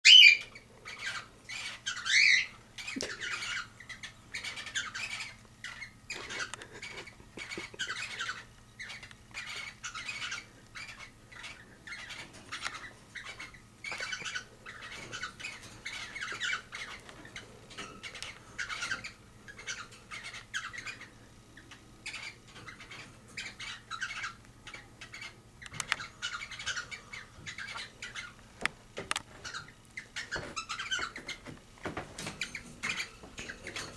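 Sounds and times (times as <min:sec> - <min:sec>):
cockatiels chirping and squawking: 0:00.0 - 0:28.4, 0:29.0 - 0:33.9.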